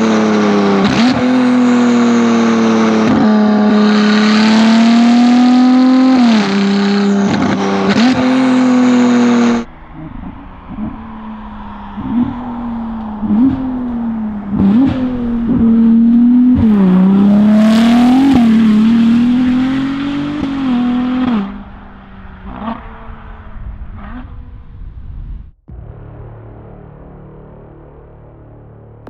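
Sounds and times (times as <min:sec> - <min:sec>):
sports car engine revving: 0:00.0 - 0:25.3.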